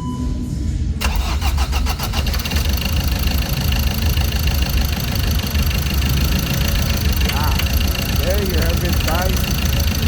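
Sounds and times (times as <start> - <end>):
diesel engine starting and running: 0.9 - 10.0.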